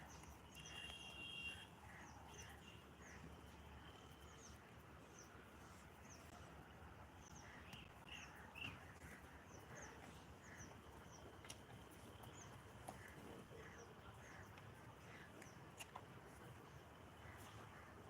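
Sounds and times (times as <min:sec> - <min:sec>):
faint birds chirping: 0:00.0 - 0:18.0
low background hum: 0:00.0 - 0:18.0.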